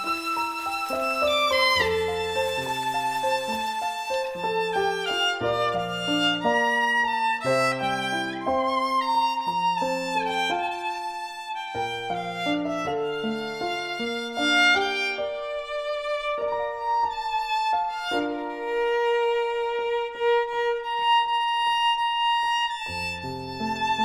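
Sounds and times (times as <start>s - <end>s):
violin melody: 0.0s - 24.0s.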